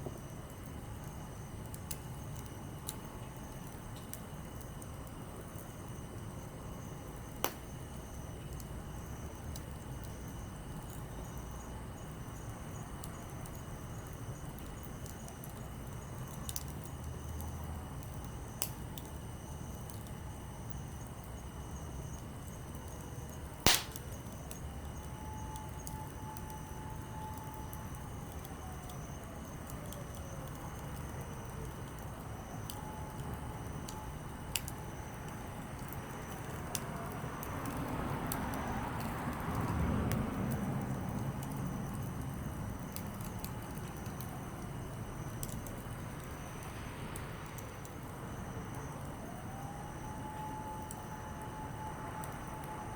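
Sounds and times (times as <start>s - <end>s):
fire crackling pops: 0.0s - 11.2s, 12.7s - 21.4s, 22.1s - 52.9s
campfire burning: 0.0s - 52.9s.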